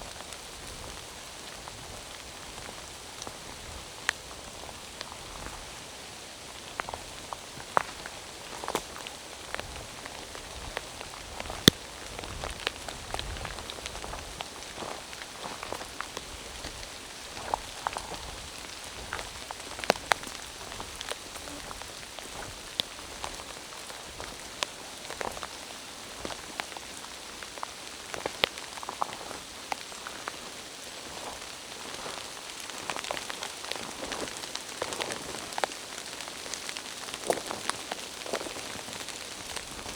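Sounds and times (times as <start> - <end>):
rain pattering in forest: 0.0 - 39.9.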